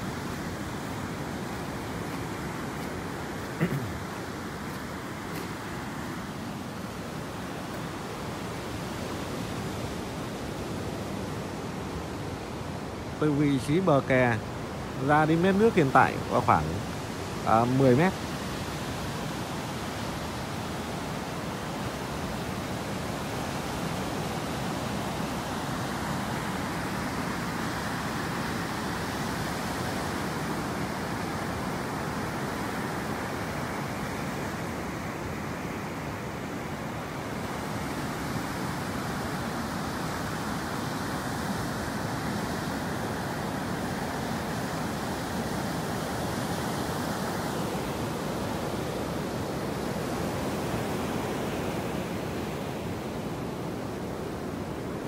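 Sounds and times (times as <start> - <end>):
heavy surf breaking on beach: 0.0 - 55.0.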